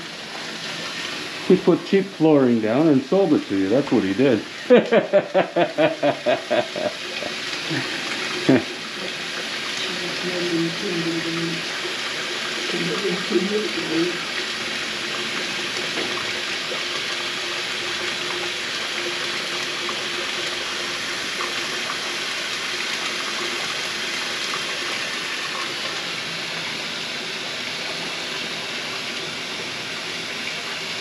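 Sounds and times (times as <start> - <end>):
faucet water pouring into sink: 0.0 - 31.0.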